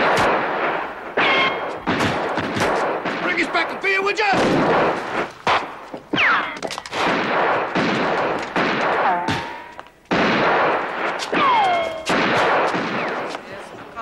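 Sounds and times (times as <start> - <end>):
gunfire: 0.0 - 13.9
explosions: 0.0 - 14.0.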